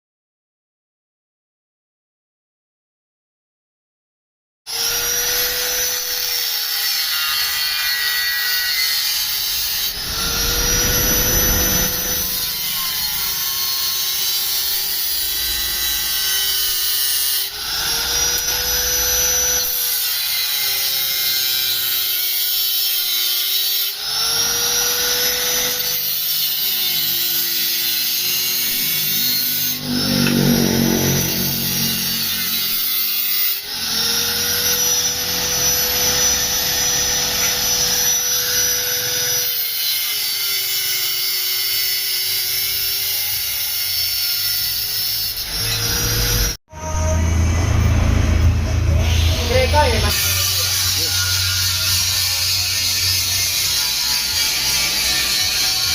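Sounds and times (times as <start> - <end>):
electric power tool working metal: 4.7 - 55.9.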